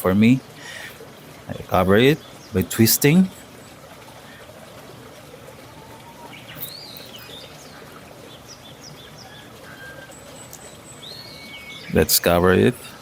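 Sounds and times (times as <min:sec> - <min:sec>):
steady outdoor hiss: 0:00.0 - 0:13.0
birds chirping and calling: 0:00.1 - 0:13.0.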